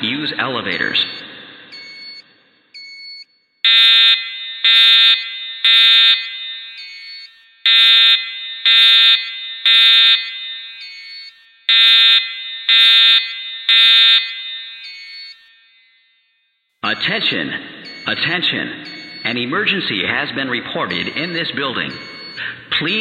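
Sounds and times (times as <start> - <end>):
fire alarm horn blasts: 2.8 - 15.9, 16.9 - 23.0.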